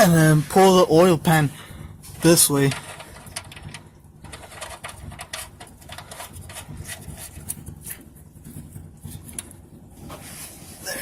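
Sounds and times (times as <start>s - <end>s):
light clicks and scrapes of parts: 2.0s - 11.0s.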